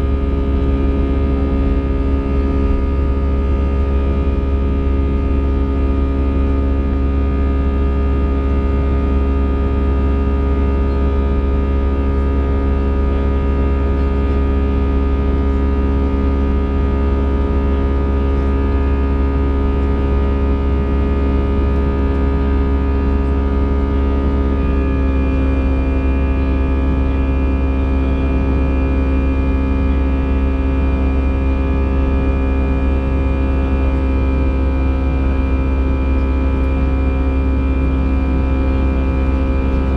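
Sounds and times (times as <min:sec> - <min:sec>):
high engine whine: 0:00.0 - 0:39.9
jet engine drone: 0:00.0 - 0:39.9.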